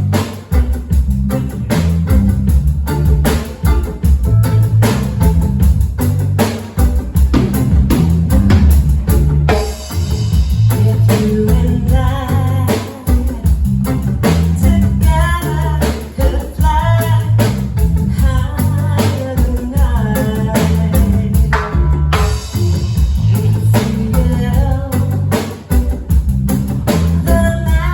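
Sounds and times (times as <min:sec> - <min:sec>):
live band playing: 0:00.0 - 0:27.9.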